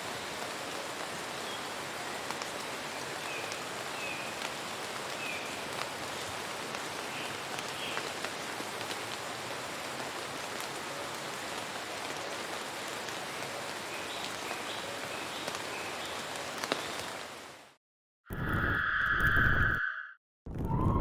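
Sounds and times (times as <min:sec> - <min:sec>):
steady rain falling: 0:00.0 - 0:17.8.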